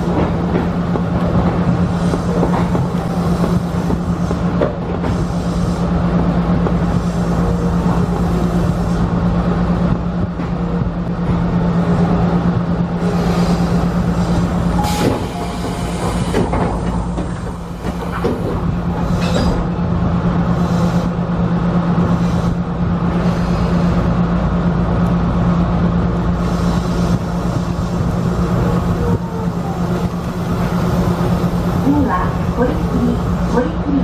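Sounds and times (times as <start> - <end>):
electric train humming: 0.0 - 34.0.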